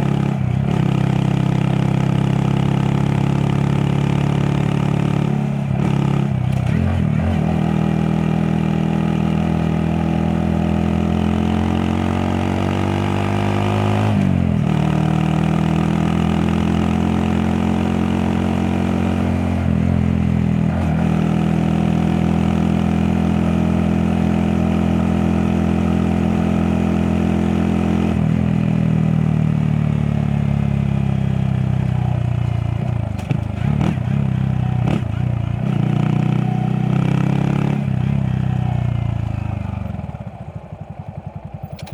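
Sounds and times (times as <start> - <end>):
motorcycle engine shifting gears: 0.0 - 29.1, 30.2 - 41.9.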